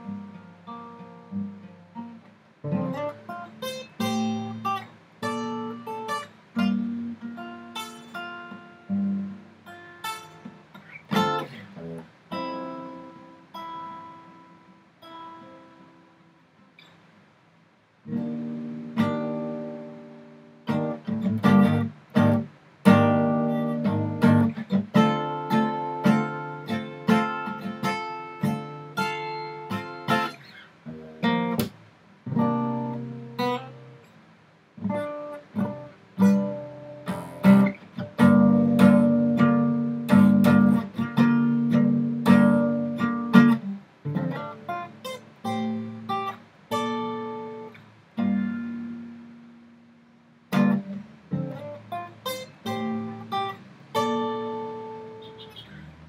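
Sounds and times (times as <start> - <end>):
acoustic guitar strumming chords: 0.0 - 17.2, 18.0 - 56.0.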